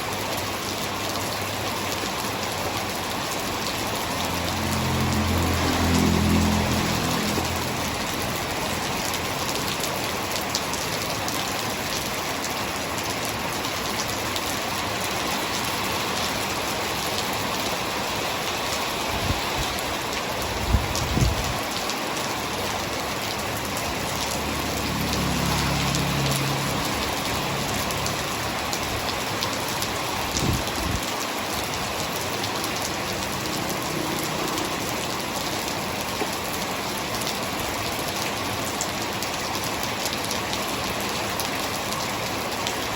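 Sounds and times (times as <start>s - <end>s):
hard rain falling: 0.0s - 42.9s.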